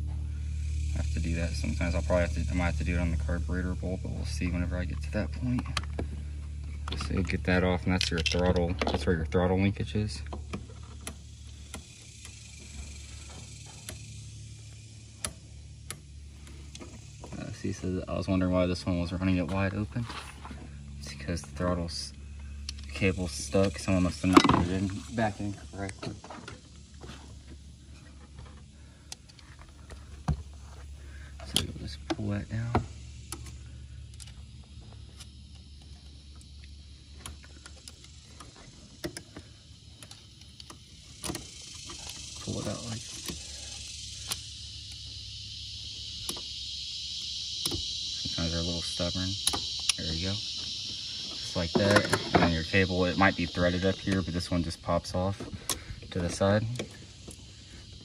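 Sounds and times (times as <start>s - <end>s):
low steady hum: 0.0s - 58.0s
steady high hiss: 0.0s - 58.0s.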